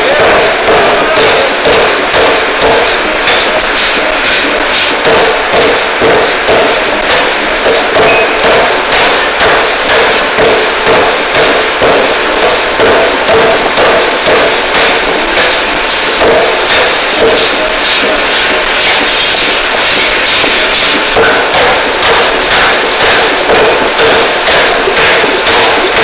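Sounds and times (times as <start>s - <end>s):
forging hammer blows: 0.0s - 26.0s.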